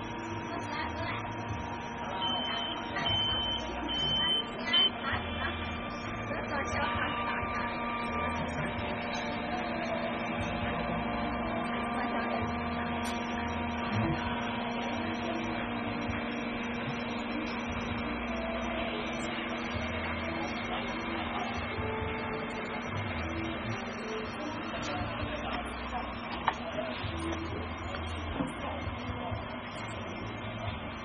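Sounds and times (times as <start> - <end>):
fans and hot-air heater whirring: 0.0 - 31.0.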